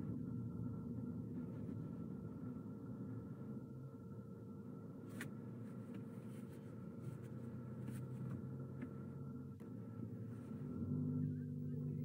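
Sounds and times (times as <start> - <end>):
car cabin road and engine hum: 0.0 - 12.0.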